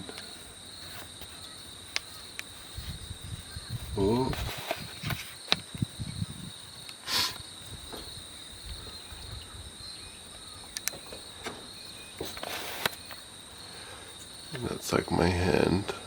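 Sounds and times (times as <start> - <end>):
insects trilling: 0.0 - 16.0
rustle: 0.0 - 16.0.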